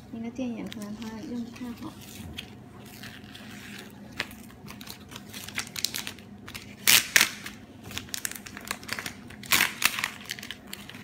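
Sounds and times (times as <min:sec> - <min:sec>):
sticker film crackling as peeled: 0:00.5 - 0:11.0.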